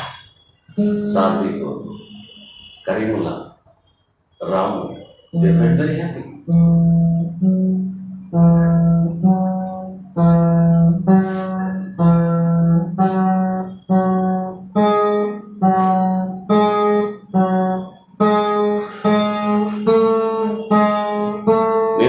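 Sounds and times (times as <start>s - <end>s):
acoustic guitar chord strums: 0.0s - 22.0s.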